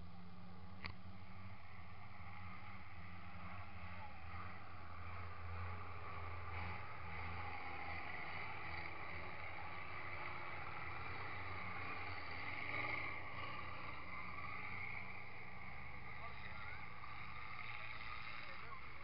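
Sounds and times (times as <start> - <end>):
combine harvester engines droning: 0.0 - 19.0.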